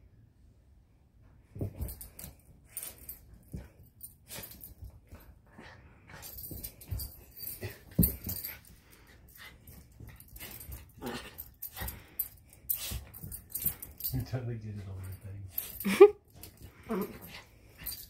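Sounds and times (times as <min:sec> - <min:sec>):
small dog making play noises: 0:01.6 - 0:14.0, 0:15.5 - 0:18.0.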